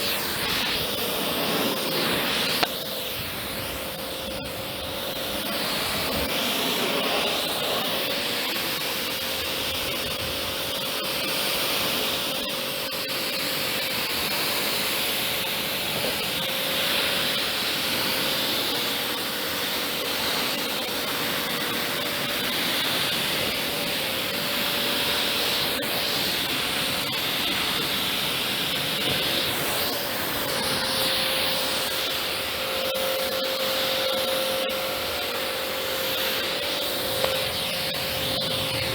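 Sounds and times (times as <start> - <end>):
machine humming: 0.0 - 38.9
pressure washer spraying water: 0.0 - 38.9.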